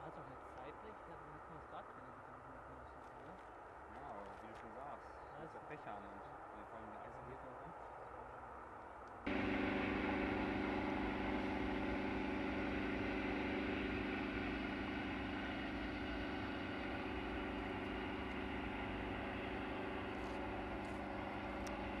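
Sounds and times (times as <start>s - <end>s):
jet engines humming: 0.0s - 22.0s.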